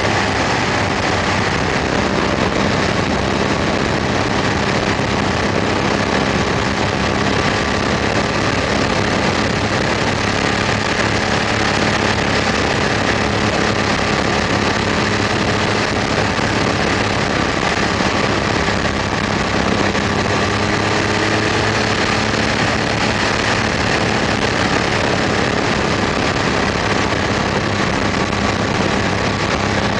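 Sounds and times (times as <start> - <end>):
motorcycle engine cruising: 0.0 - 29.9
wind and road noise: 0.0 - 29.9.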